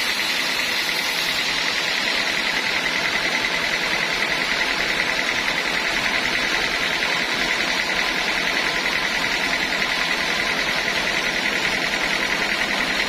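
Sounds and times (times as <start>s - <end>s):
sawmill saw whining: 0.0s - 13.0s.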